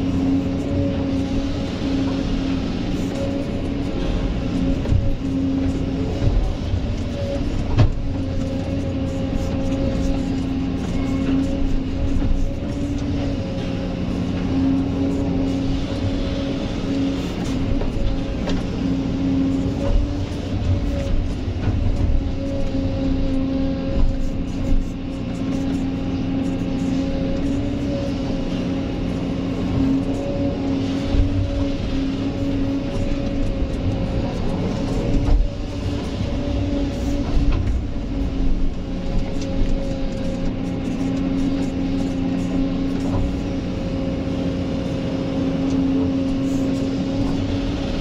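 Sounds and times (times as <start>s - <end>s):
excavator engine rumbling: 0.0s - 48.0s.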